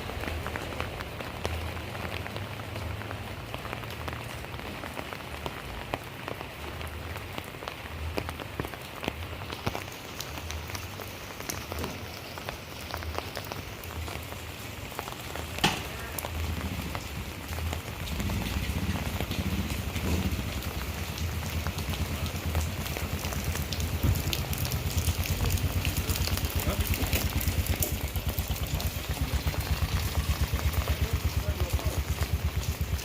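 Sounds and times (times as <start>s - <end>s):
raindrops ticking on surfaces: 0.0s - 33.0s
steady rain falling: 0.0s - 33.0s.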